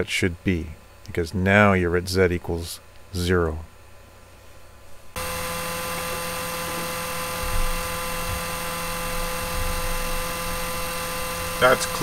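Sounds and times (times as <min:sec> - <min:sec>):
cooling fan humming: 0:00.0 - 0:12.0.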